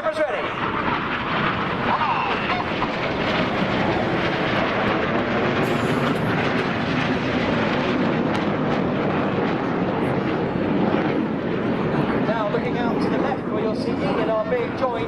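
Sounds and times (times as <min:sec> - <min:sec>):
jets flying overhead: 0:00.0 - 0:15.0.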